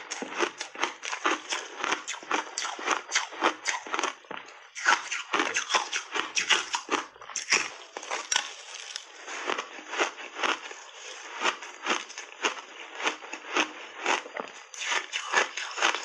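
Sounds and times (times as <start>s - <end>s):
ice being crunched and chewed: 0.0s - 16.0s.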